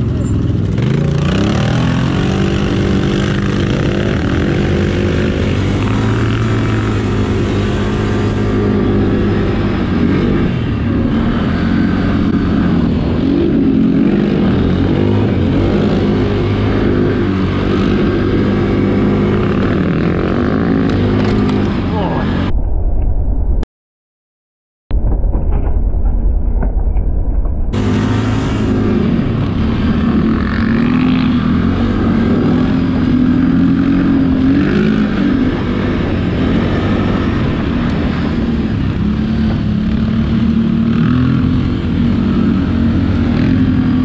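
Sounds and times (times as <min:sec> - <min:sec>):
quad bike engine revving: 0:00.0 - 0:22.5, 0:27.8 - 0:44.0.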